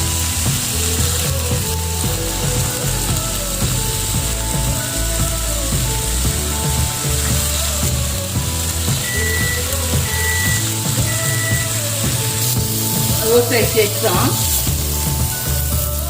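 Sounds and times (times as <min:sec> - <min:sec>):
background music with bass line: 0:00.0 - 0:16.0
chicken sizzling in a pan: 0:00.0 - 0:16.0.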